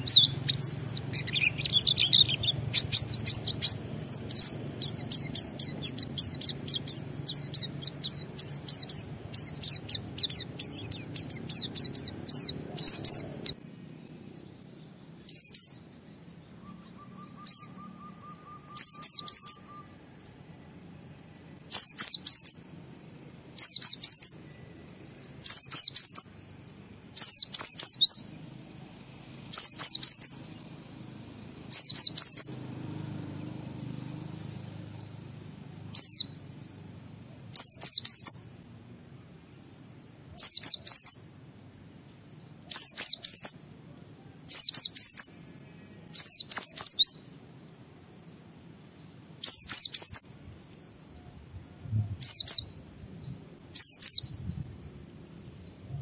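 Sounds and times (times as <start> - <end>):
bird twittering: 0.0 - 28.4, 29.0 - 32.7, 33.4 - 38.8, 39.6 - 41.4, 42.2 - 43.7, 44.3 - 48.3, 48.9 - 56.0.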